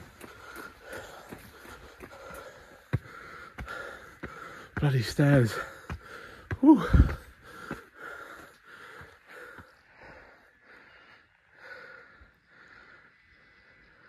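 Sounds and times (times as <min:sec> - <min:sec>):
man breathing hard: 0:00.0 - 0:14.0.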